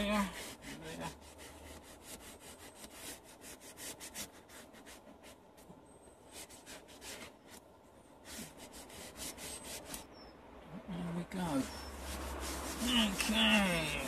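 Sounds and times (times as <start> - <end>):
foam pad rubbing leather: 0.0 - 5.7, 6.3 - 7.6, 8.2 - 10.1, 11.4 - 14.0.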